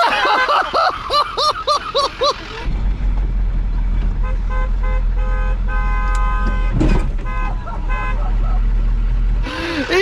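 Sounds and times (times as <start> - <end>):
truck engine low rumble: 0.0 - 10.0.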